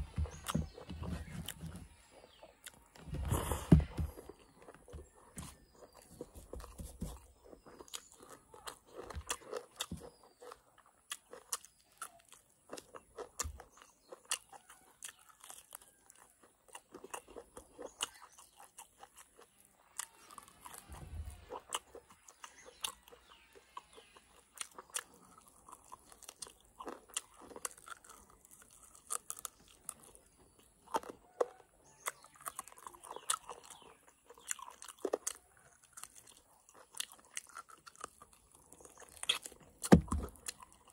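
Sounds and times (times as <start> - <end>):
person chewing with wet crunches: 0.0 - 40.9.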